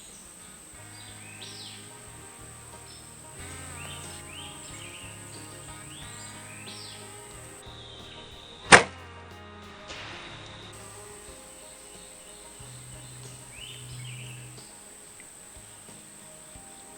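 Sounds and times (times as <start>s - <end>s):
insect drone: 0.0s - 8.9s, 9.8s - 16.9s
background music: 0.0s - 16.9s.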